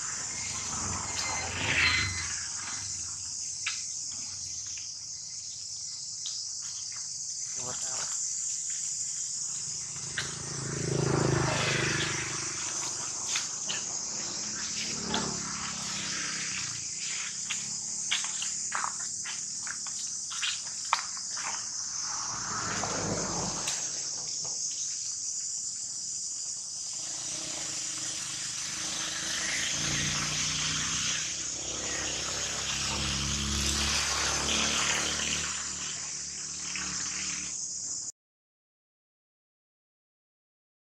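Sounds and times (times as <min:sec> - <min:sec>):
insects droning: 0:00.0 - 0:38.1.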